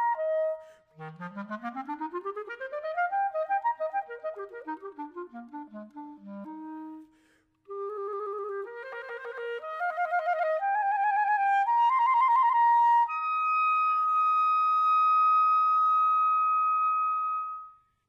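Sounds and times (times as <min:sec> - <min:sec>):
clarinet playing: 0:00.0 - 0:17.9.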